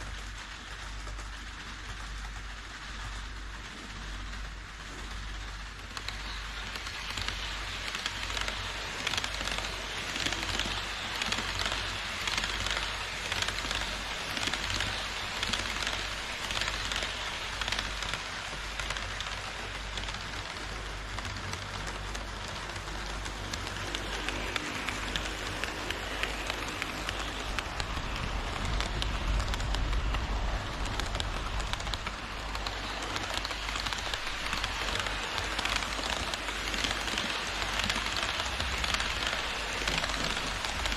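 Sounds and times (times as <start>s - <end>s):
model train wheels rattling: 0.0s - 40.9s.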